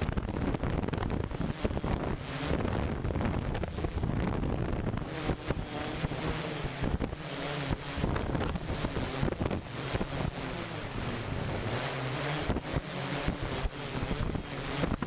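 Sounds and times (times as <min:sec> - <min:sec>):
machinery engine running: 0:00.0 - 0:15.0
wind buffeting microphone: 0:00.0 - 0:15.0.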